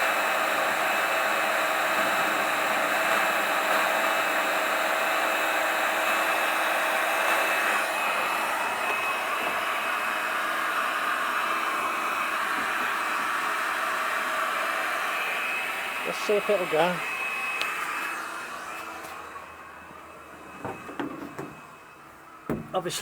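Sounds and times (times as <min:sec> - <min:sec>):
hot air gun blowing with whine: 0:00.0 - 0:23.0.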